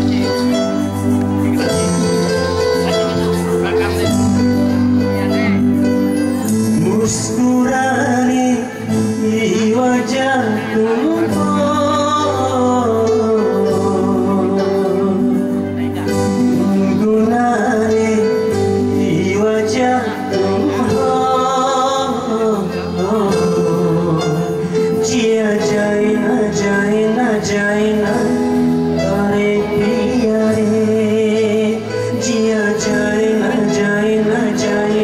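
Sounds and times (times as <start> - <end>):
electronic keyboard chords: 0.0 - 35.0
man singing through microphone: 0.0 - 35.0.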